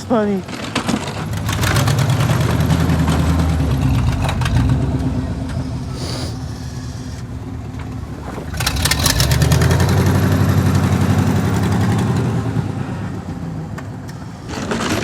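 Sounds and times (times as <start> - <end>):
truck engine revving under load: 0.6 - 15.0.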